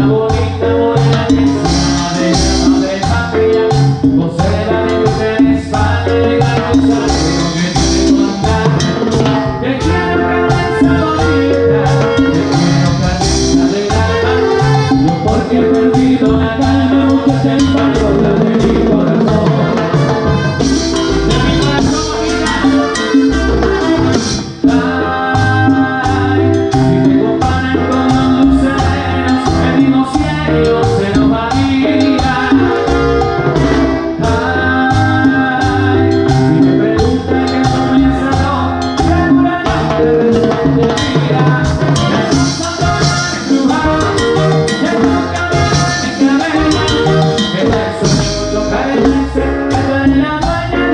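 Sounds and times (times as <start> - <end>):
latin dance band playing: 0.0 - 50.9.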